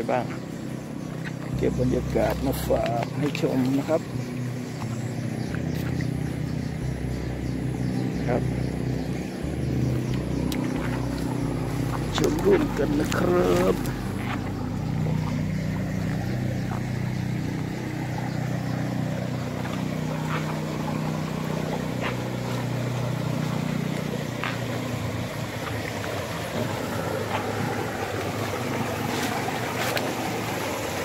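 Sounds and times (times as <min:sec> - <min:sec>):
flood water rushing: 0:00.0 - 0:31.0
low steady hum: 0:00.0 - 0:31.0.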